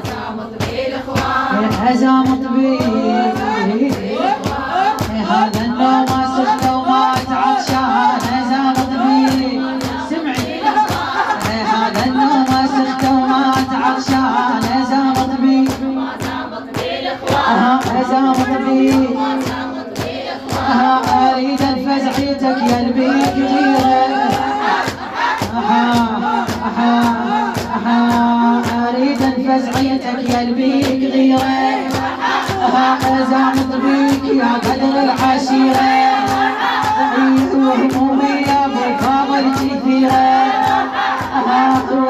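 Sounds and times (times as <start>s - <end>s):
chorus of voices singing: 0.0s - 42.0s
steady percussive beat: 0.0s - 42.0s.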